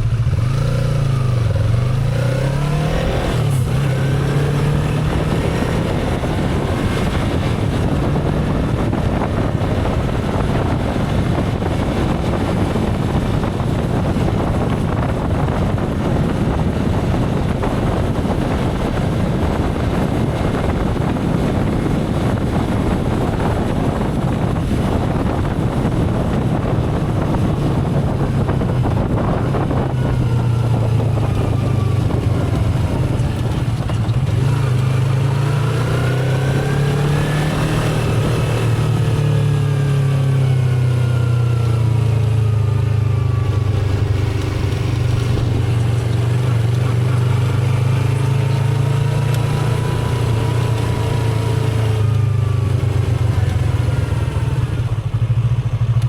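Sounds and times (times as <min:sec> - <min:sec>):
motorcycle engine humming: 0:00.0 - 0:56.0
wind and road rush: 0:00.0 - 0:56.0.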